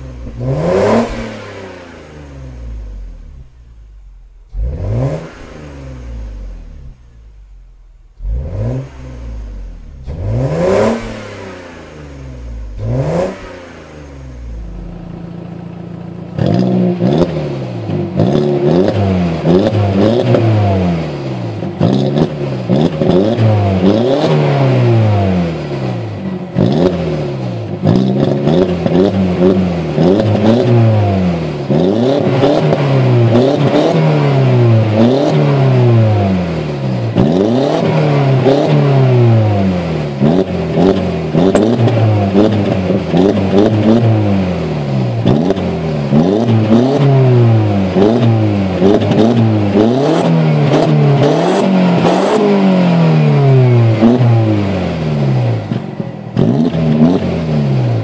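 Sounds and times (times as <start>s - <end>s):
car engine revving and idling: 0.0s - 58.0s
turbo car engine revving: 0.0s - 58.0s.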